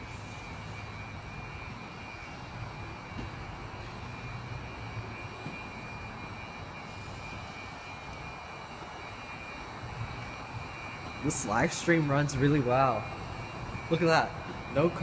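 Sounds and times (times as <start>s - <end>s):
high-pitched buzz from lights: 0.0s - 15.0s
low rumble of garage: 0.0s - 15.0s.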